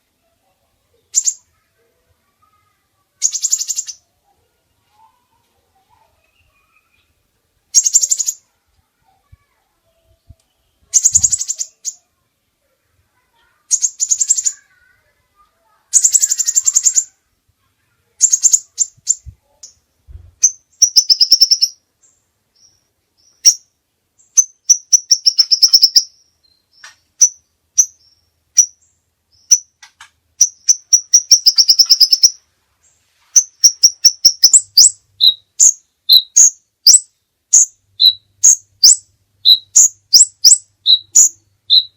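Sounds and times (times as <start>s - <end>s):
songbird singing trills and chirps: 0.0s - 41.9s.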